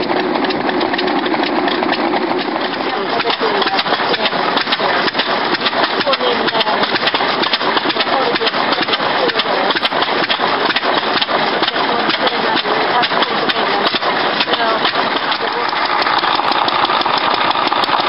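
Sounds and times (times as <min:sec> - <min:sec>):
stationary engine clattering: 0:00.0 - 0:18.0.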